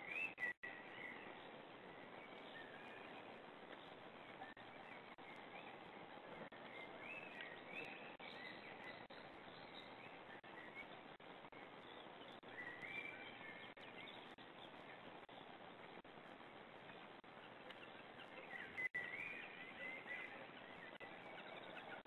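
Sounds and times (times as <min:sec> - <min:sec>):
steady hiss: 0:00.0 - 0:21.8
bird chirping: 0:00.0 - 0:22.0.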